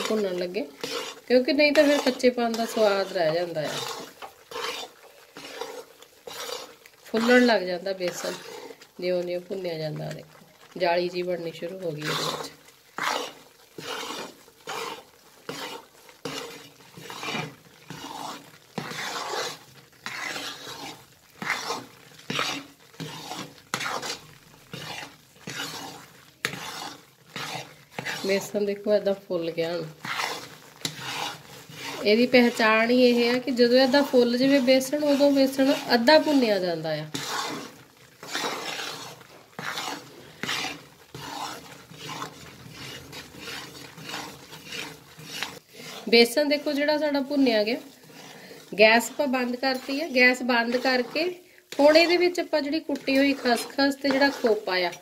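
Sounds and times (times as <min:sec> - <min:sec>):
metal spatula scraping pan: 0:00.0 - 0:55.0.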